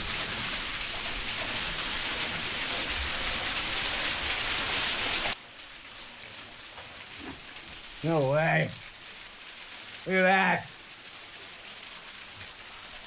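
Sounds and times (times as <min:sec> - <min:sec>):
rush of falling water: 0:00.0 - 0:13.0
waterfall splashing on microphone: 0:00.0 - 0:13.0.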